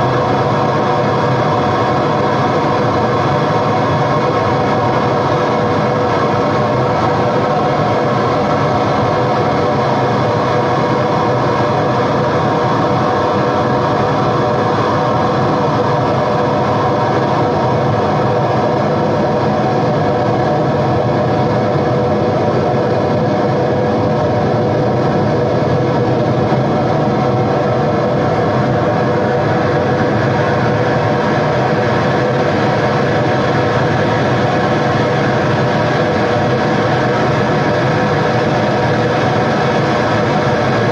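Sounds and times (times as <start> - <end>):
dense noise drone with held tones: 0.0 - 40.9.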